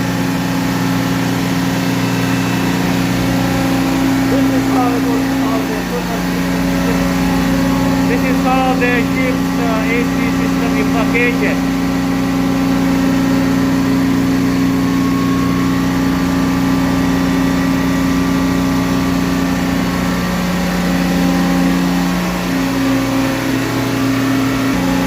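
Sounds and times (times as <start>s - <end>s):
vacuum pump droning: 0.0s - 25.0s.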